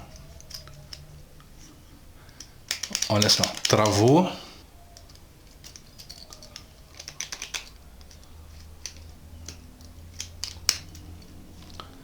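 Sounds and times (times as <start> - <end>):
faint low hum: 0.0 - 12.0
padlock clicking: 0.1 - 1.4, 2.3 - 4.2, 4.9 - 11.8.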